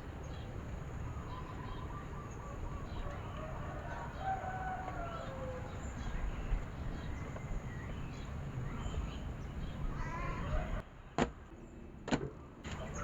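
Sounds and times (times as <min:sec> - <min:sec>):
wild birds calling: 0:00.0 - 0:10.8, 0:12.7 - 0:13.0.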